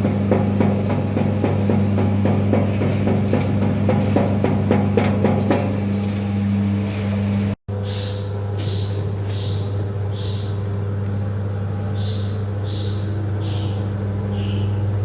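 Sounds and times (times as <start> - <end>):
drying machine electric hum: 0.0 - 15.0.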